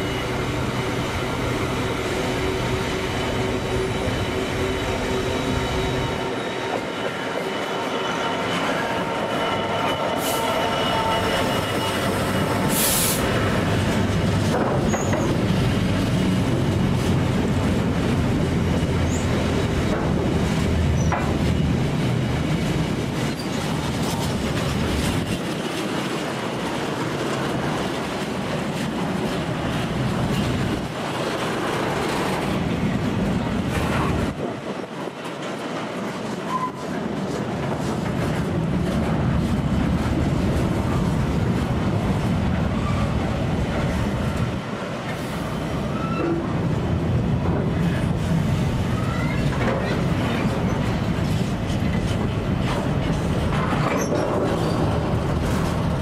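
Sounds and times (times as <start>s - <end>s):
diesel locomotive engine: 0.0s - 56.0s
wagon wheels rumbling on rail: 0.0s - 56.0s.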